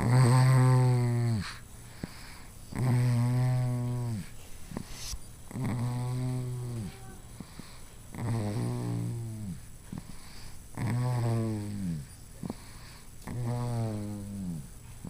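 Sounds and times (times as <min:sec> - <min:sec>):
long buzzing snores: 0:00.0 - 0:14.8.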